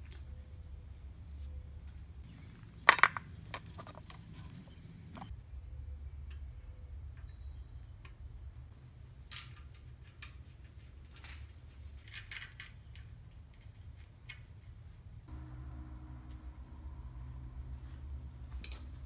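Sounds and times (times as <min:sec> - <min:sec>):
low steady rumble: 0:00.0 - 0:09.2, 0:12.9 - 0:19.0.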